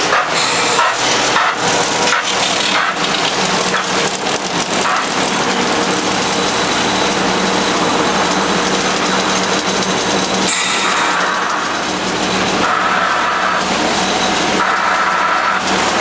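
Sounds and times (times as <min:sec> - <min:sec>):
locomotive engine hiss and hum: 0:00.0 - 0:16.0
sharp steam puffs: 0:00.0 - 0:16.0.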